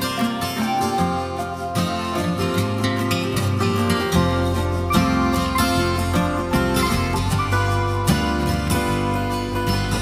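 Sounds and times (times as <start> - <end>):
acoustic guitar music: 0.0 - 10.0
sustained bass: 0.9 - 10.0.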